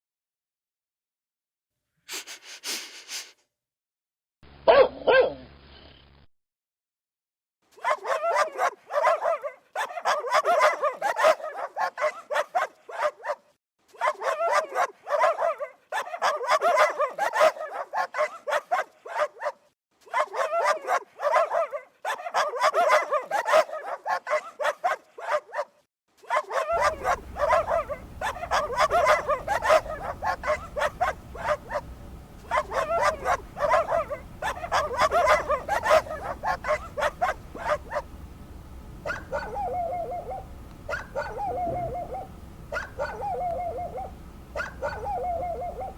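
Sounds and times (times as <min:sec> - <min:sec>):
dog yapping: 0:04.7 - 0:05.4, 0:07.8 - 0:13.4, 0:14.0 - 0:38.2, 0:39.0 - 0:45.9.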